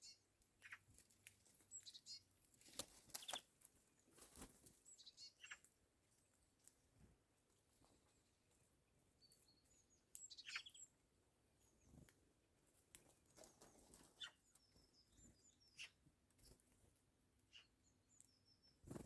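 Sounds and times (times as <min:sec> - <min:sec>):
faint bird chirping: 0:00.0 - 0:00.9, 0:01.6 - 0:02.3, 0:03.1 - 0:07.0, 0:07.8 - 0:12.3, 0:13.2 - 0:19.0.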